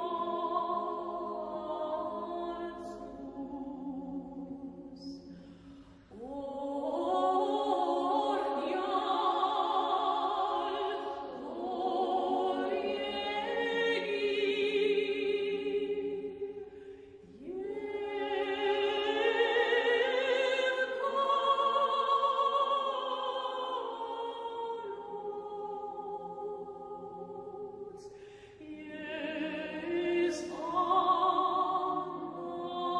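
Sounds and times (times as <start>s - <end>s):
person singing a hymn: 0.0s - 5.4s, 6.1s - 16.5s, 17.3s - 32.9s.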